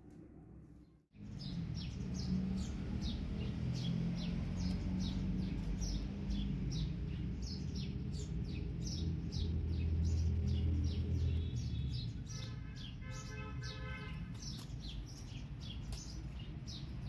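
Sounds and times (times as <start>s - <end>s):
small birds chirping: 0.8s - 17.0s.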